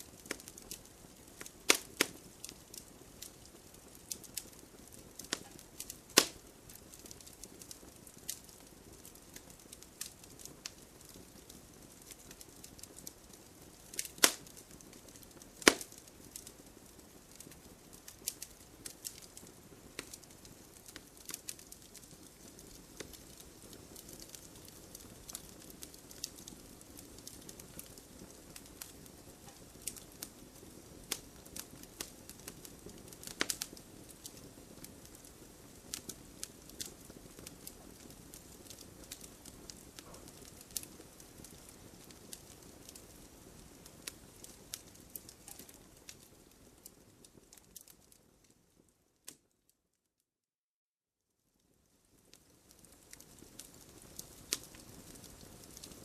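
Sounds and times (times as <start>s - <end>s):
wood fire crackling: 0.0s - 49.6s, 51.6s - 56.0s.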